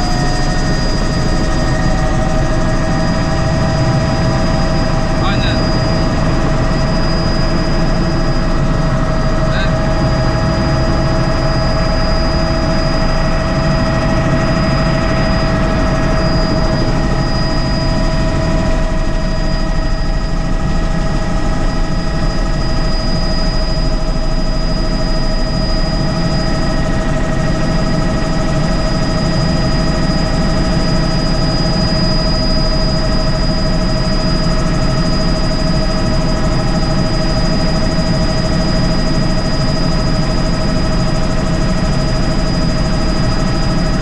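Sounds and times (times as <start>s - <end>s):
low helicopter rotor rumble: 0.0s - 44.0s
turbine whine: 0.0s - 44.0s.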